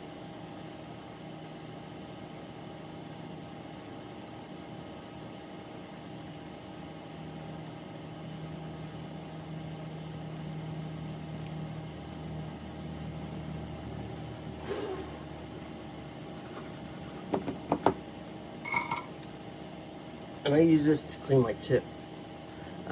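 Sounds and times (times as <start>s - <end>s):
soldering gun humming: 0.0s - 20.2s.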